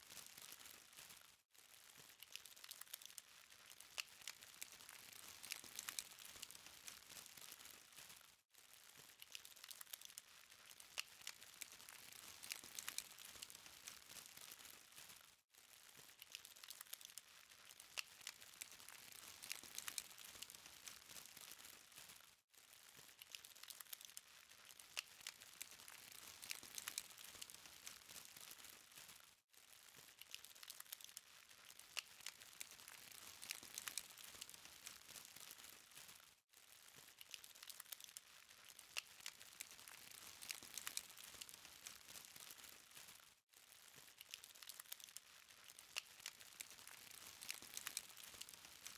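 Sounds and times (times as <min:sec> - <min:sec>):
charcoal fire crackling: 0:00.0 - 0:48.9.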